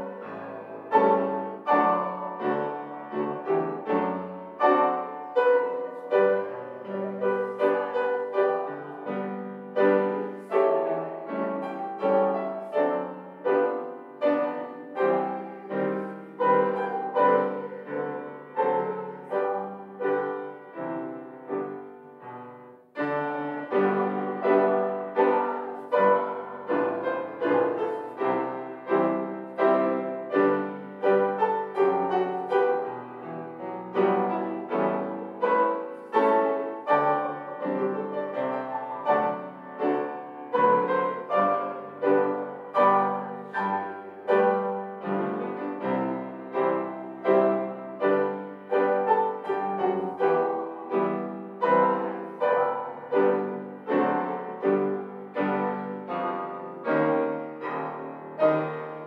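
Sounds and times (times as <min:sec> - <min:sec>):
piano playing slow chords: 0:00.0 - 0:59.0.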